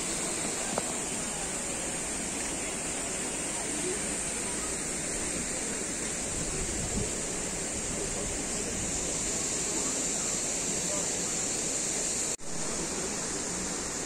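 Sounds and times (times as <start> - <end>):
fountain water splashing: 0.0 - 14.0
high hiss: 0.0 - 14.0.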